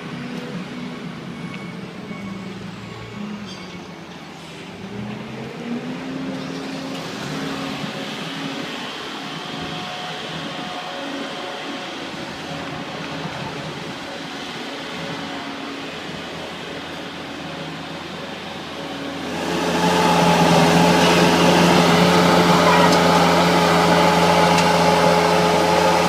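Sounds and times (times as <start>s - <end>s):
heavy construction machinery running: 0.0s - 26.0s.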